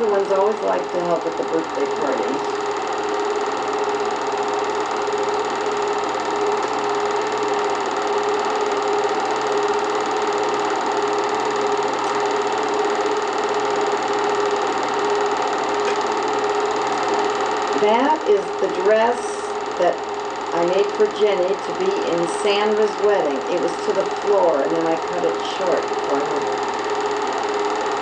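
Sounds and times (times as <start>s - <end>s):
film projector whirring: 0.0s - 28.0s.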